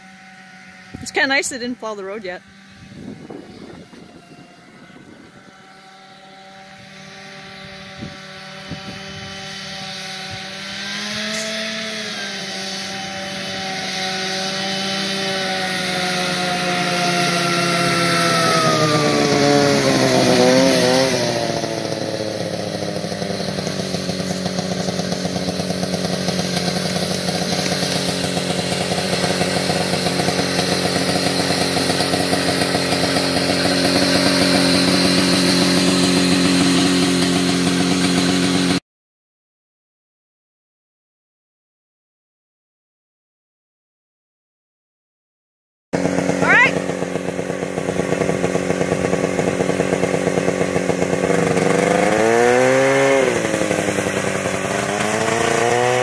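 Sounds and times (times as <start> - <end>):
snowmobile two-stroke engine: 0.0 - 38.8, 46.0 - 56.0.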